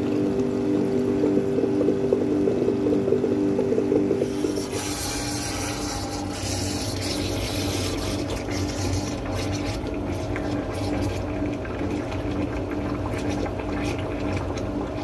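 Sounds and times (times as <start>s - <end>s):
drain-cleaning machine pump humming: 0.0s - 15.0s.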